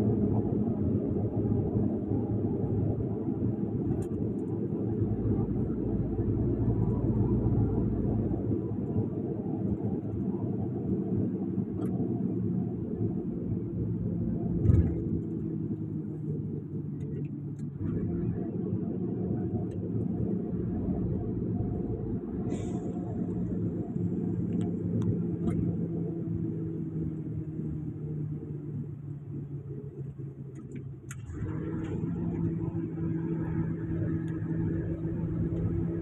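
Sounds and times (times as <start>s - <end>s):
vehicle engine and tyres rumbling: 0.0s - 36.0s.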